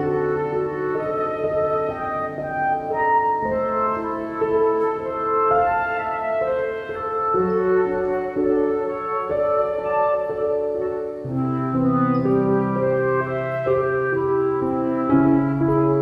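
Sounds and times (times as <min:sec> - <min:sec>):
instrumental background music: 0:00.0 - 0:16.0.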